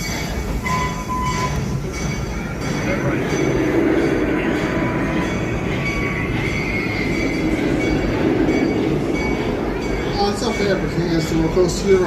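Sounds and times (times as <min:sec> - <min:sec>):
steel wheel squeal: 0:00.0 - 0:12.0
train rumbling on track: 0:00.0 - 0:12.0.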